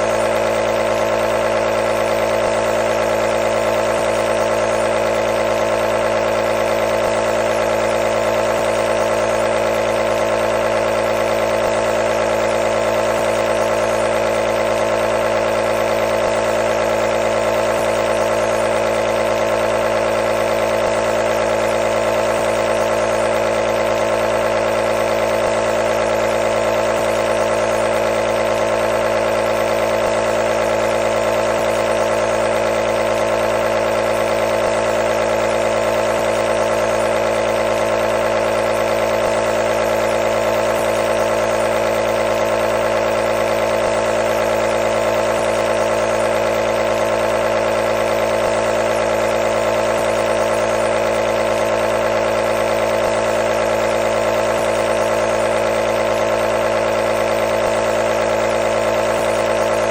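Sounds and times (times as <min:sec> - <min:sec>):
compressor motor humming: 0:00.0 - 0:59.9.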